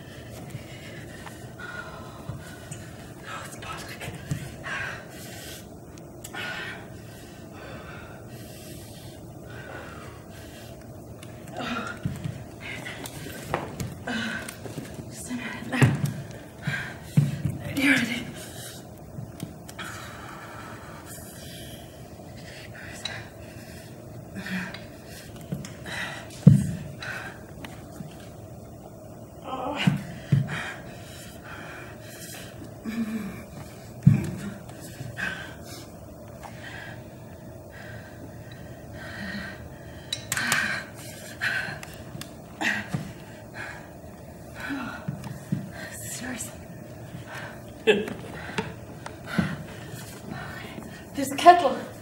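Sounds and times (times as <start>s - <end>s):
low hiss of room noise: 0.0s - 52.0s.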